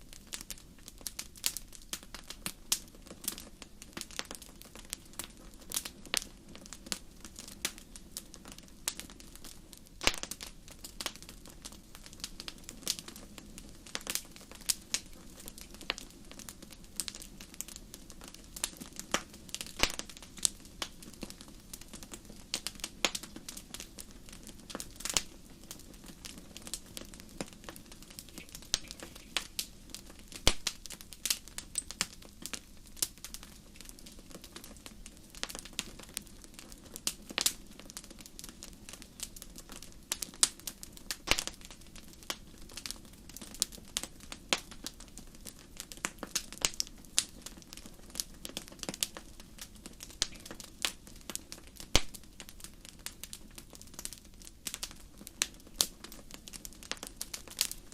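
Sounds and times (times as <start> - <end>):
wood fire popping and snapping: 0.0 - 57.9.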